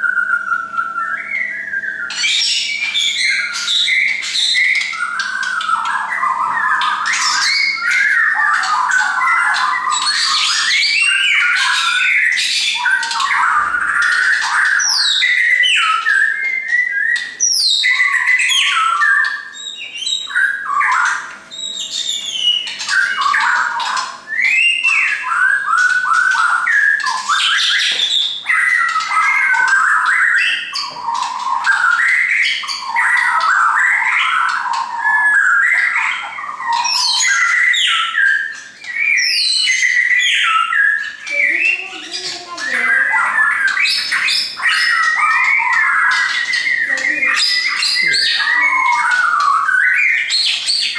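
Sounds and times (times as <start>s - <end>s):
bird singing whistles and trills: 0.0s - 50.9s.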